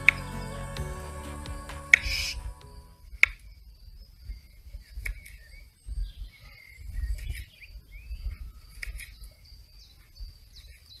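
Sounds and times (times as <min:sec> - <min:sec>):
small birds chirping: 0:01.9 - 0:11.0.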